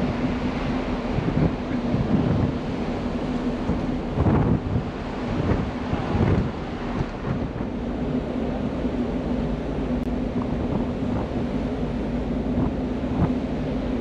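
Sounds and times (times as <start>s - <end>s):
ferry machinery hum: 0.0s - 14.0s
wind rumbling on microphone: 0.0s - 14.0s.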